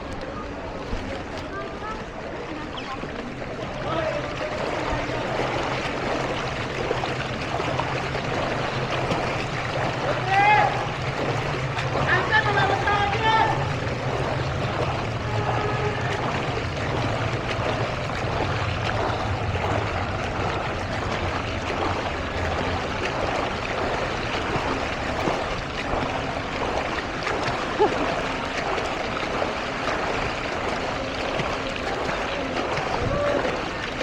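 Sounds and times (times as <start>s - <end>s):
floodwater rushing and splashing: 0.0s - 34.0s
low motor hum: 0.0s - 34.0s.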